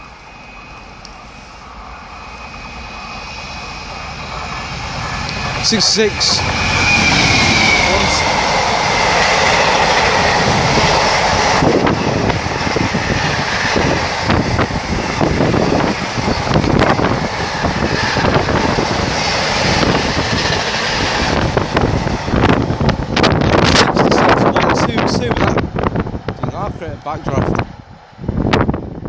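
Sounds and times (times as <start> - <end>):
diesel locomotive passing: 0.0 - 29.0.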